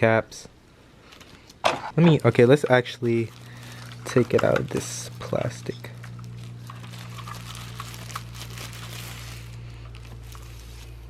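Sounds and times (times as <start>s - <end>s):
steady low hum: 0.0s - 11.0s
plastic packaging crinkling: 1.0s - 11.0s.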